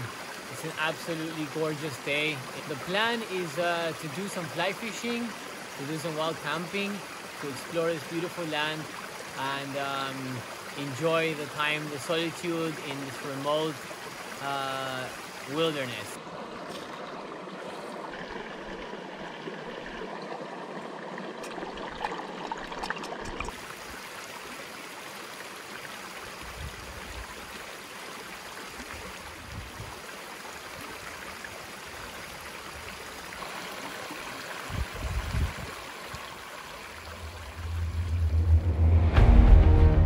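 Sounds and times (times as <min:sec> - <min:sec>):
stream babbling over stones: 0:00.0 - 0:38.3.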